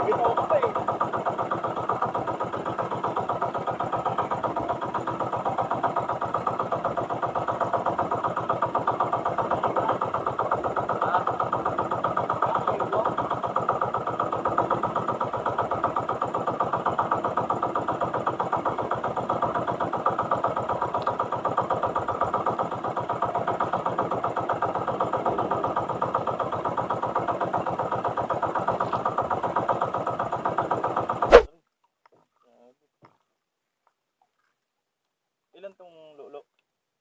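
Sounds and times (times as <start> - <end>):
boat engine running: 0.0 - 31.5.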